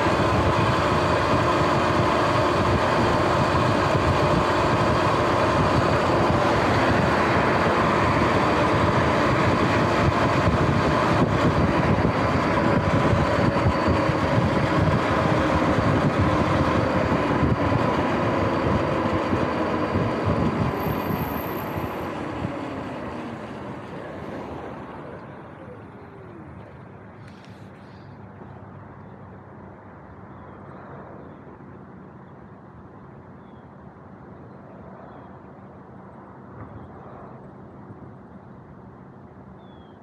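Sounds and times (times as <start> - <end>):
wind and tyre noise: 0.0 - 40.0.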